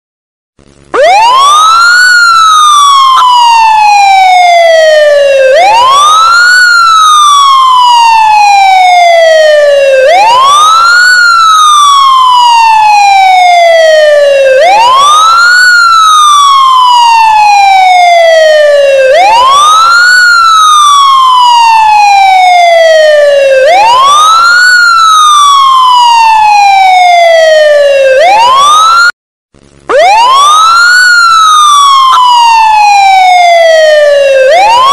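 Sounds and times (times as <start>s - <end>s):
ambulance siren wailing: 0.9s - 29.2s, 29.9s - 34.9s.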